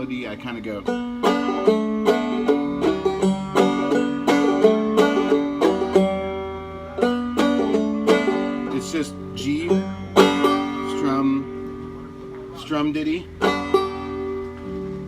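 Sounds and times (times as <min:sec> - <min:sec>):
banjo strumming: 0:00.0 - 0:15.0.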